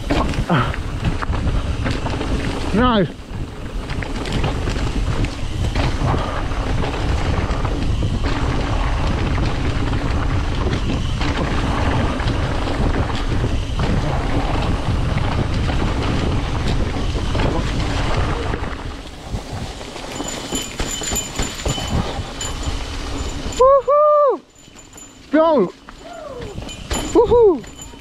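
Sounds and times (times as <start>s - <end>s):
bike tyres rolling on dirt trail: 0.0s - 28.0s
wind buffeting microphone: 0.0s - 28.0s.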